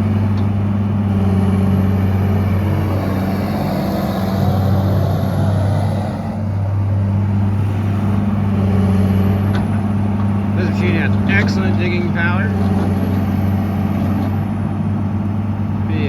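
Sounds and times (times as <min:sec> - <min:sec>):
excavator diesel engine running: 0:00.0 - 0:16.0
hydraulic whine: 0:00.0 - 0:16.0.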